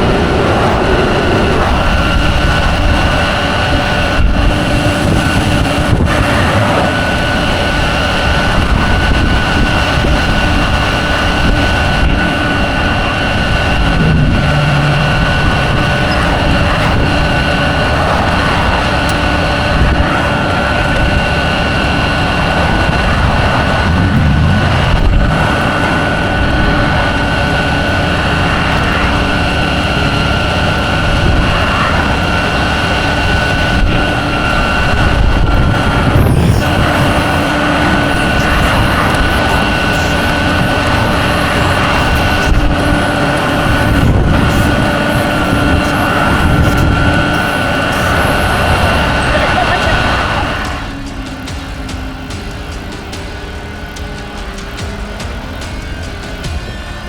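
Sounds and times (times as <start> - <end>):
constant high whine: 0.0 - 57.0
truck engine and road noise: 0.0 - 57.0.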